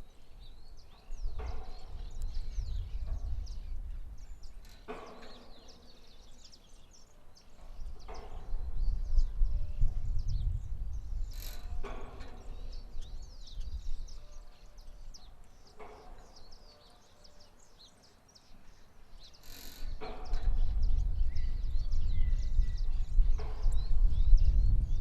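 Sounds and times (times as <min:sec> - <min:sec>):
wind rumble on microphone: 0:00.0 - 0:06.5, 0:07.5 - 0:16.6, 0:19.7 - 0:25.0
small birds chirping: 0:00.0 - 0:25.0.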